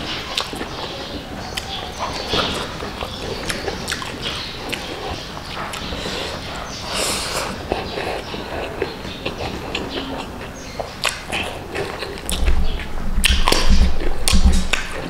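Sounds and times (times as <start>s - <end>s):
man chewing food: 0.0s - 15.0s
lip smacks and clicks: 0.1s - 15.0s.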